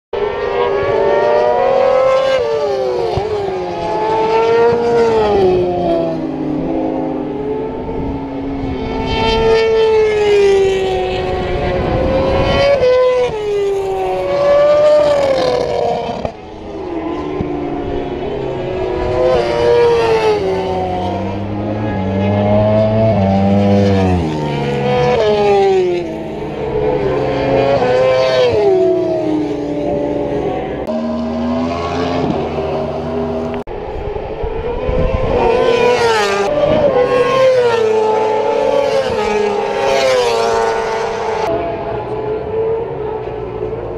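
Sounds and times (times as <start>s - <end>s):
motorcycles passing at speed: 0.2s - 43.9s.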